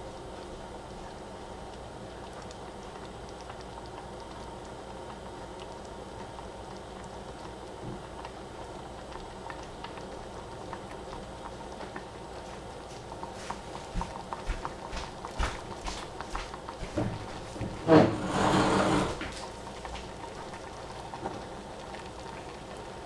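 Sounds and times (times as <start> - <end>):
fruit filling simmering in a pot: 0.0 - 23.0.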